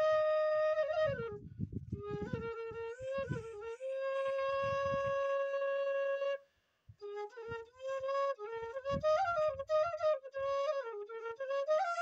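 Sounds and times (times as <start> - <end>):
bamboo flute playing a tune: 0.0 - 12.0.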